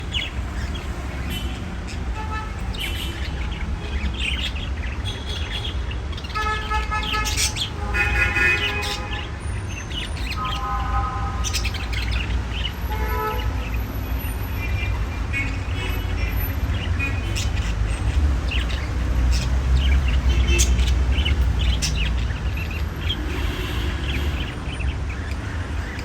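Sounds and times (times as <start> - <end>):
budgies chirping: 0.0 - 26.0.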